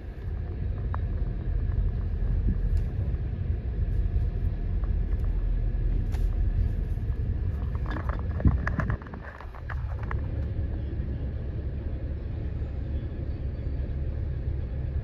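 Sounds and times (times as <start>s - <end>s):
car rolling slowly rumble: 0.0s - 15.0s.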